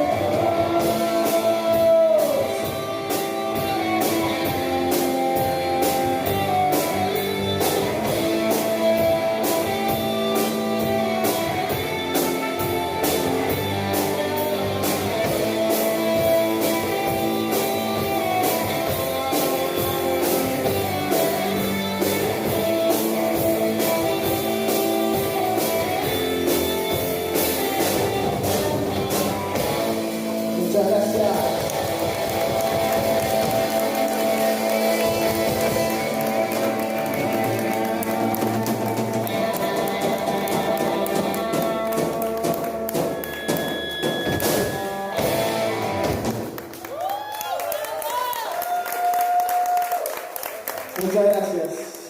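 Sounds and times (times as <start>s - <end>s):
drum kit: 0.0s - 47.1s
electric guitar: 0.0s - 52.0s.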